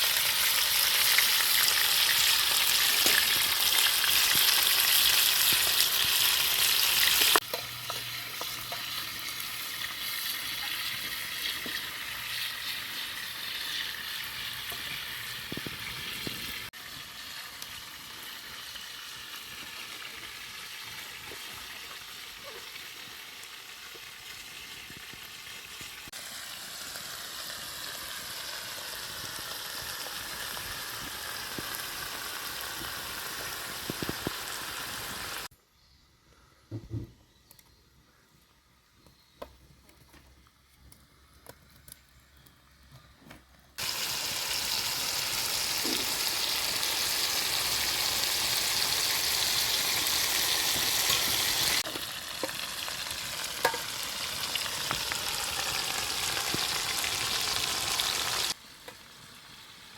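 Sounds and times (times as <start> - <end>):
food sizzling in hot oil: 0.0 - 35.5, 43.8 - 59.9.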